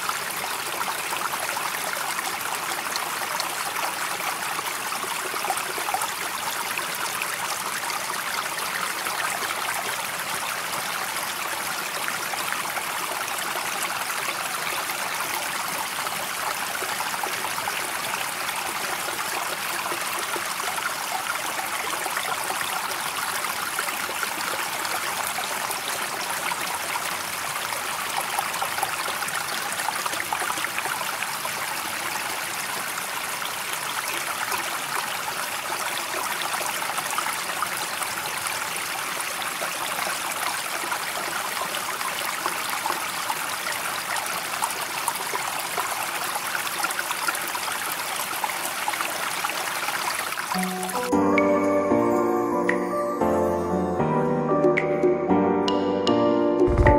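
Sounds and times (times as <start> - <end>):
running water rushing: 0.0 - 51.5.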